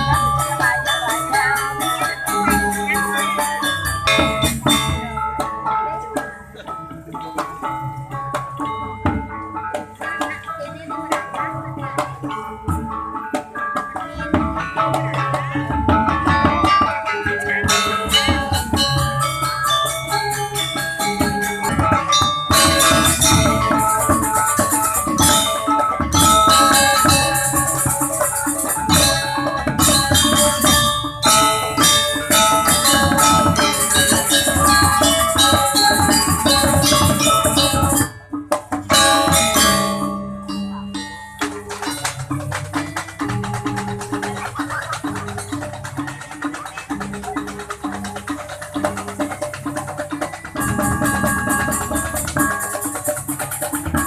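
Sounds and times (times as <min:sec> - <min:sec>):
drums: 0:00.0 - 0:54.0
metallophones ringing: 0:00.0 - 0:54.0.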